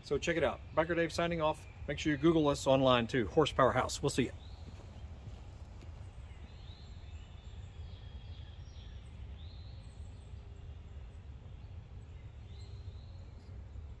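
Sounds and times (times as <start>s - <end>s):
birds chirping: 0.0s - 14.0s
low outdoor rumble: 0.0s - 14.0s.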